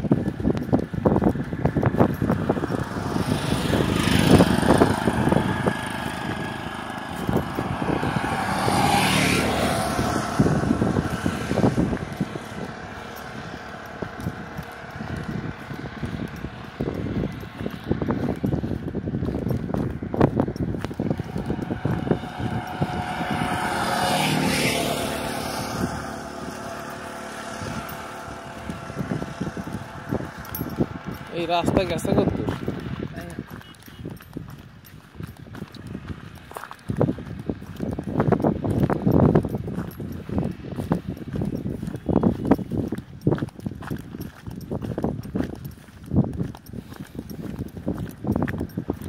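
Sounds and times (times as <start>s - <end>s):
auto-rickshaw passing: 0.0s - 49.0s
wind buffeting microphone: 0.0s - 49.0s.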